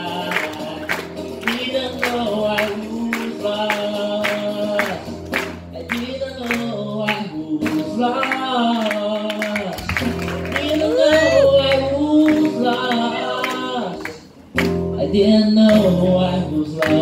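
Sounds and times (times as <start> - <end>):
person singing: 0.0 - 5.1, 5.8 - 17.0
acoustic guitar strumming: 0.0 - 17.0.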